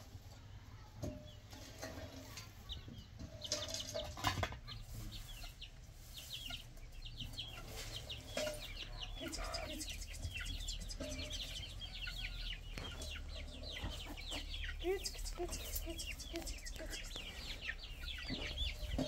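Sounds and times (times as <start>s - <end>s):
chicks peeping: 0.0s - 19.0s
hen clucks: 0.3s - 19.0s.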